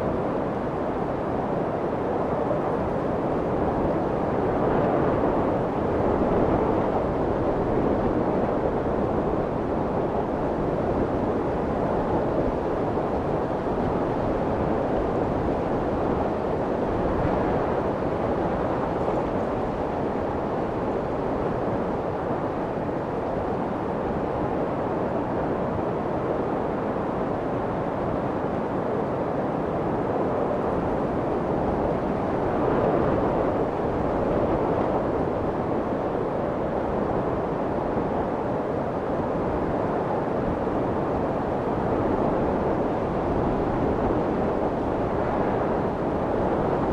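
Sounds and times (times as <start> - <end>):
muffled white noise hiss: 0.0 - 46.9.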